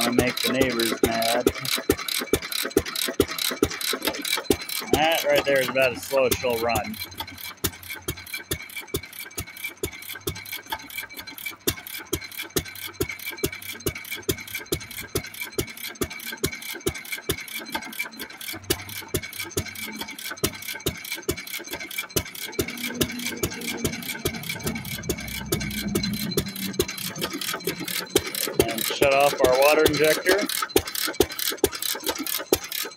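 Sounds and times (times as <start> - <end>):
single-cylinder engine exhaust beats: 0.0 - 32.9.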